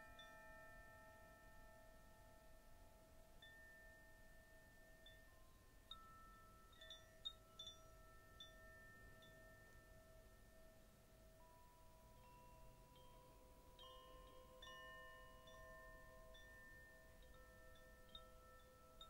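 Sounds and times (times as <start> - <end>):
high tinkling notes: 0.0 - 19.0
soft meditation music: 0.0 - 19.0.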